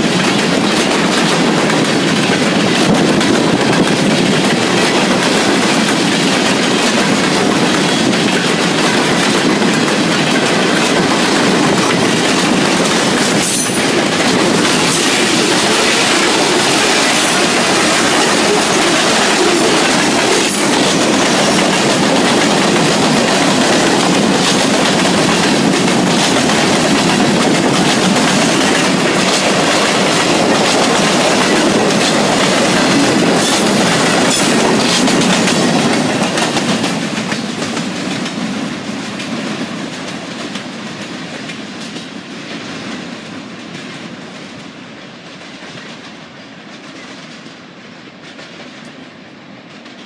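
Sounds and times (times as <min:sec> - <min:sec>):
freight train cars rolling past: 0:00.0 - 0:50.0.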